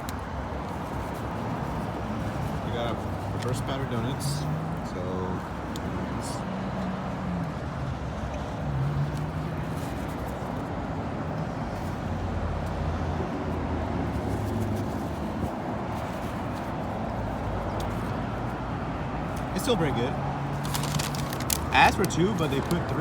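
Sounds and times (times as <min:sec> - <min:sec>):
traffic engines humming: 0:00.0 - 0:23.0.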